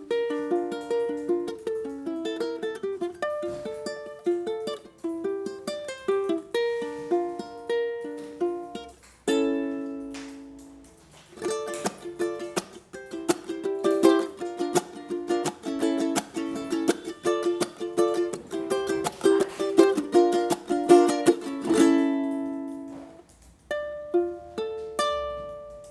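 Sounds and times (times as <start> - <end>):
ukulele chord ringing: 0.0 - 10.8, 11.4 - 25.9
ukulele plucked melody: 0.0 - 25.9.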